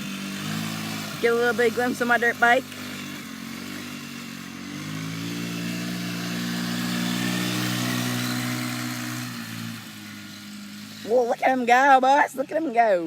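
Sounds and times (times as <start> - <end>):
small engine droning under throttle: 0.0 - 13.0.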